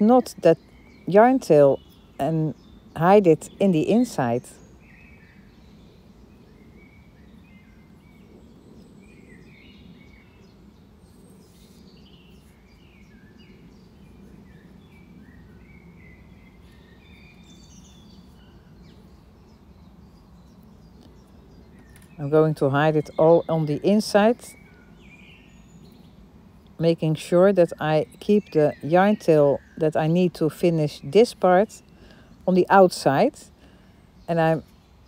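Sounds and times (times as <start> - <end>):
faint birds chirping: 0.0 - 35.0.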